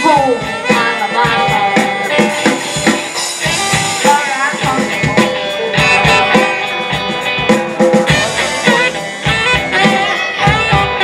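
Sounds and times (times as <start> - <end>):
saxophone: 0.0 - 7.4, 8.1 - 11.0
drum kit: 0.0 - 11.0
electric guitars: 0.0 - 11.0
live rock band playing: 0.0 - 11.0.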